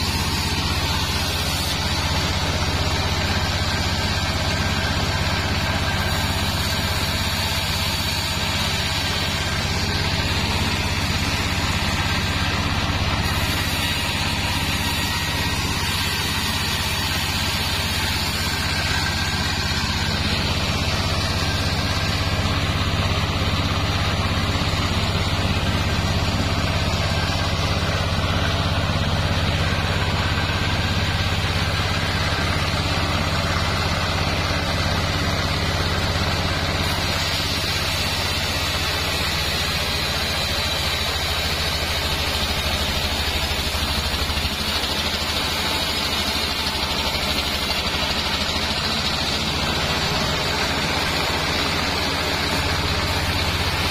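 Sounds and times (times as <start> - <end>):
bandsaw mill sawing wood: 0.0 - 53.9.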